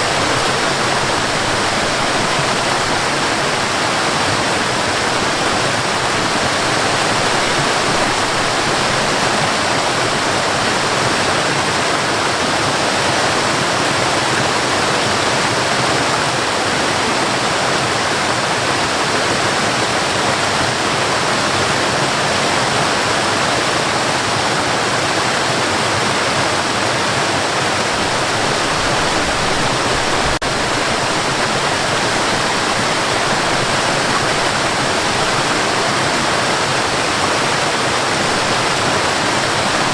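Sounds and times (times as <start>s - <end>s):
cascading water rushing: 0.0s - 39.9s.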